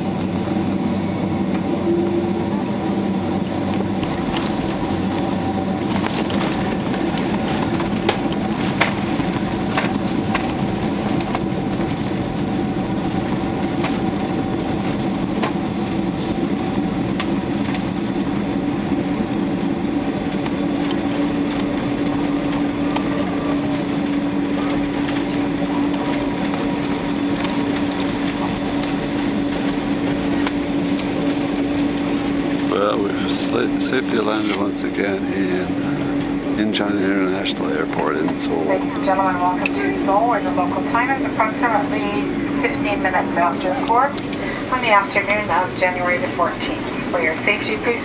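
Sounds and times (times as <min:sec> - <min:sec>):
airliner engines and rolling roar: 0:00.0 - 0:48.0
steady hum: 0:00.0 - 0:48.0.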